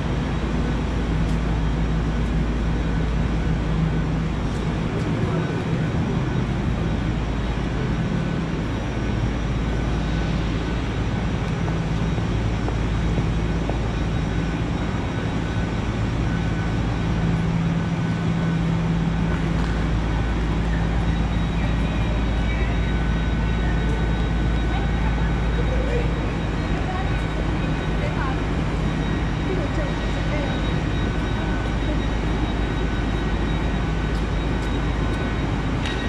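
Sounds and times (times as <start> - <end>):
low drone of standing trains: 0.0 - 36.0
station noise: 0.0 - 36.0.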